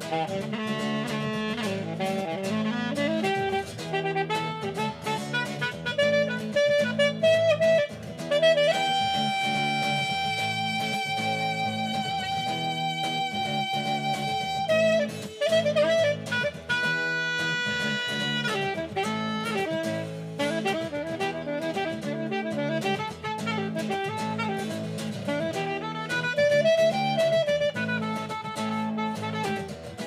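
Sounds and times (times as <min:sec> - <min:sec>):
rhythmic backing: 0:00.0 - 0:30.0
saxophone-like melody: 0:00.0 - 0:30.0.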